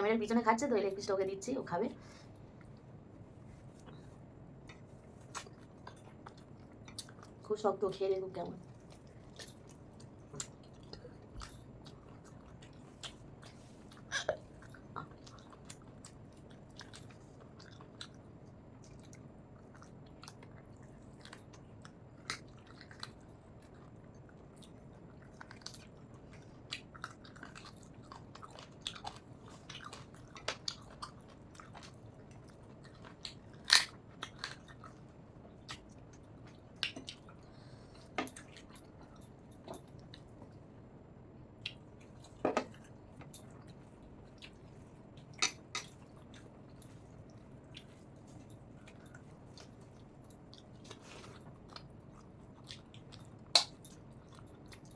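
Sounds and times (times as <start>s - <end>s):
chewing and biting food: 4.7s - 7.5s, 8.6s - 40.6s, 41.6s - 54.9s.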